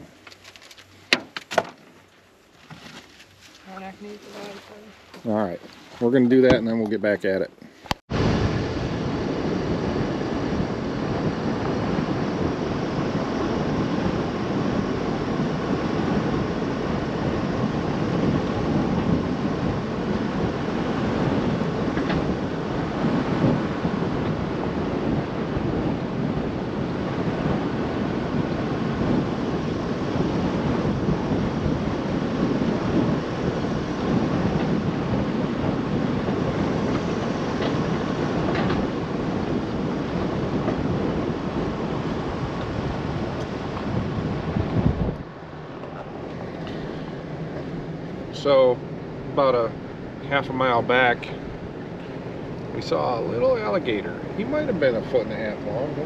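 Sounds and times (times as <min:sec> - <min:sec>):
truck driving on dirt track: 0:08.2 - 0:56.0.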